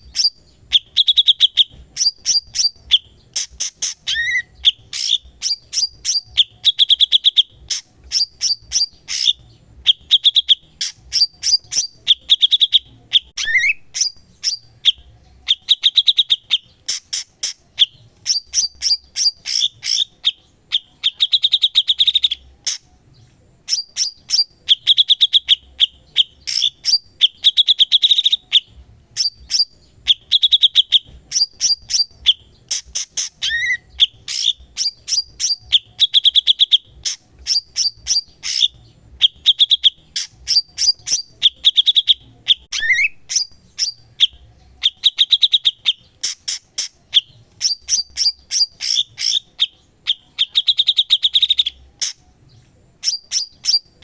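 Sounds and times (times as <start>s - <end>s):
songbird singing chattering phrases: 0.0s - 54.0s.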